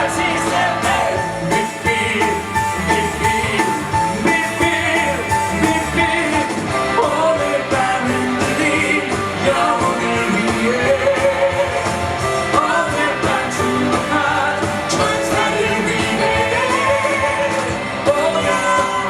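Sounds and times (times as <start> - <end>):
band accompaniment: 0.0 - 19.0
person singing live: 0.0 - 19.0.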